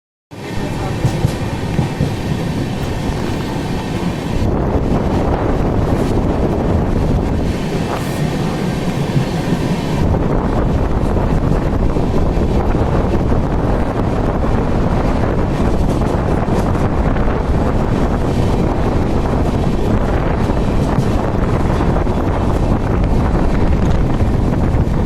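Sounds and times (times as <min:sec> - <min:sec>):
train running: 0:00.3 - 0:25.0
wind buffeting microphone: 0:00.4 - 0:25.0.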